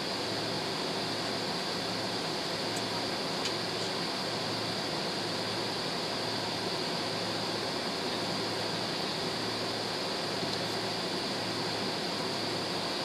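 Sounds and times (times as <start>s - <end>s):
ventilation air hiss: 0.0s - 13.0s.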